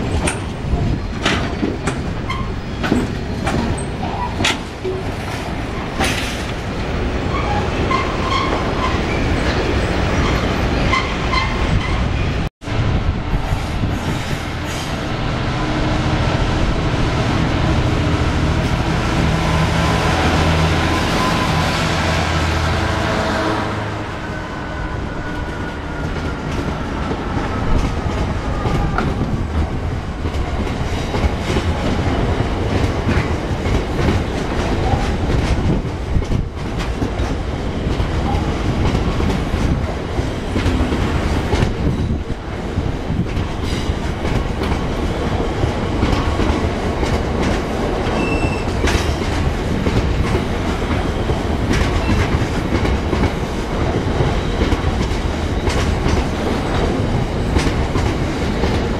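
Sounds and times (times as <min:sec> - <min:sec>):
freight train rolling past: 0:00.0 - 0:58.9.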